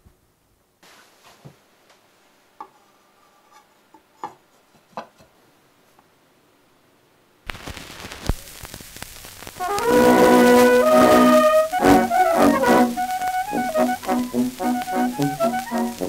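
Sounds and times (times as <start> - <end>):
record surface hiss and crackle: 0.0 - 16.0.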